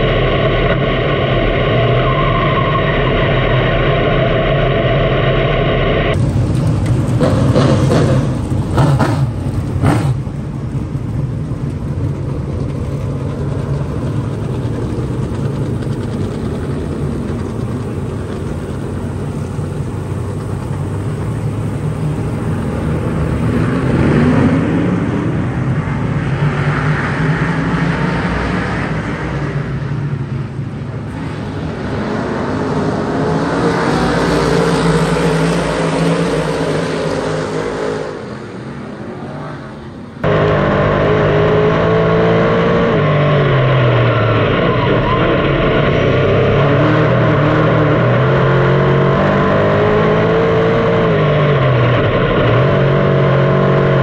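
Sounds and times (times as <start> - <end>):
race car engines running: 0.0 - 54.0.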